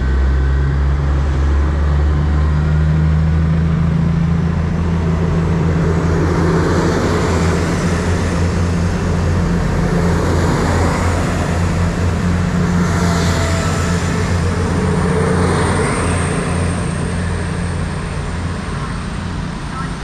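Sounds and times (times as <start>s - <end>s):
diesel train engine drone: 0.0s - 20.0s
rushing noise: 3.6s - 20.0s.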